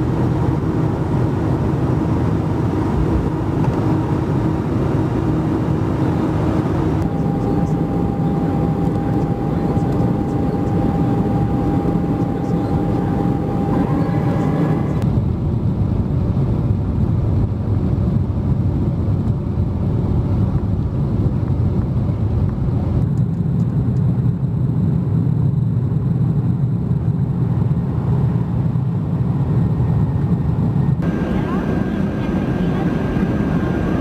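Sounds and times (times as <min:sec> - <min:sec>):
jet engine and airflow noise: 0:00.0 - 0:34.0.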